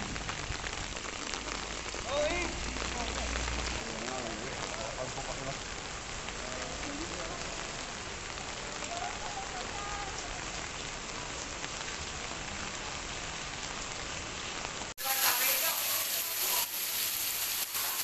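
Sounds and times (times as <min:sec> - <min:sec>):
rain on stone paving: 0:00.0 - 0:18.0.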